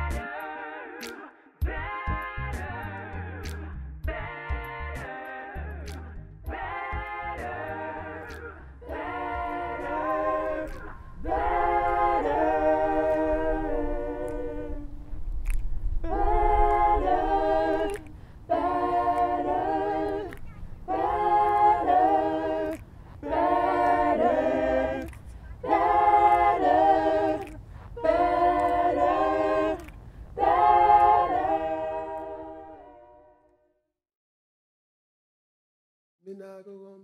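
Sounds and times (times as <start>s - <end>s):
a cappella group singing gospel: 0.0s - 33.5s.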